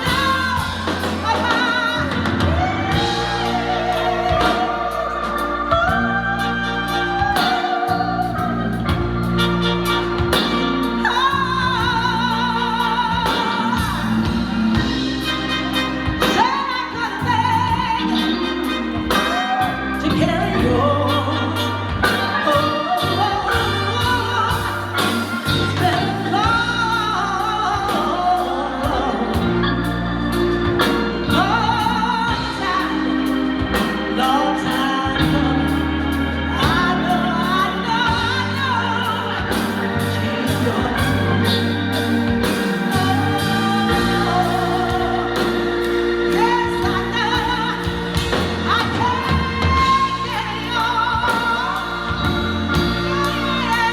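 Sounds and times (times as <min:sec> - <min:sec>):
backing music with steady beat: 0:00.0 - 0:53.9
woman singing with vibrato: 0:00.0 - 0:53.9.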